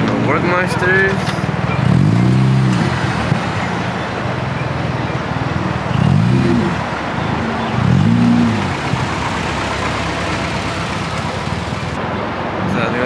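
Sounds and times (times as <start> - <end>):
car engine revving: 0.0 - 12.0
car engines rumbling: 0.0 - 13.0.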